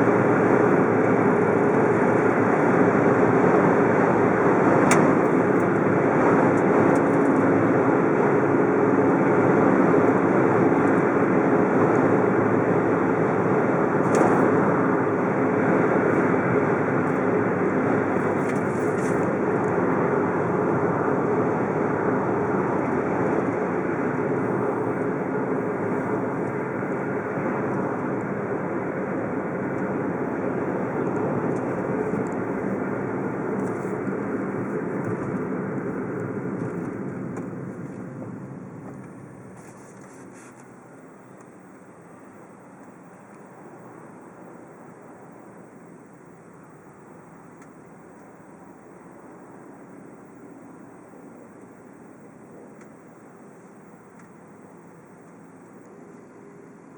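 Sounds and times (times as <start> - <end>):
car engine hum: 0.0 - 56.9
road noise rushing: 0.0 - 56.9.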